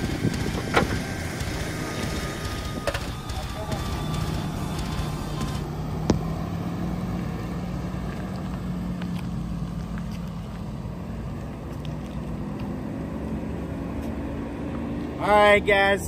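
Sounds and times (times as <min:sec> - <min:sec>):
pickup truck engine humming: 0:00.0 - 0:16.0.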